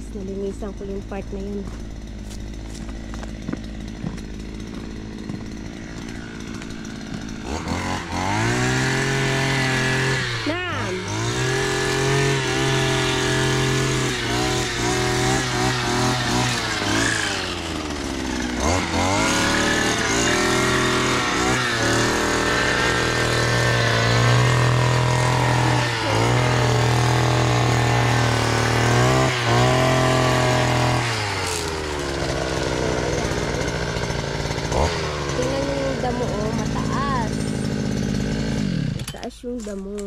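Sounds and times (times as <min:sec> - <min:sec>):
brush cutter engine running: 0:00.0 - 0:40.0.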